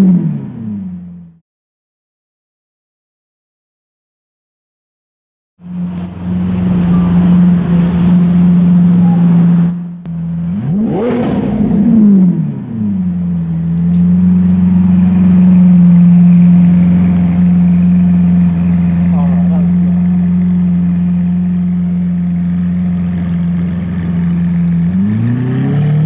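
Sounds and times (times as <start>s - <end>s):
car engine idling and revving: 0.0s - 1.4s, 5.6s - 26.0s.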